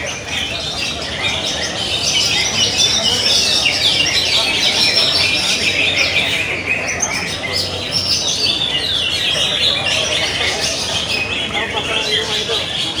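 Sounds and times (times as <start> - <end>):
caged birds singing chorus: 0.0 - 13.0.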